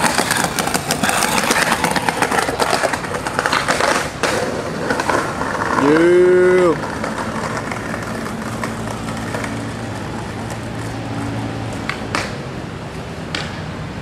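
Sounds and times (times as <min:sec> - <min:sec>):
distant city traffic hum: 0:00.0 - 0:14.0.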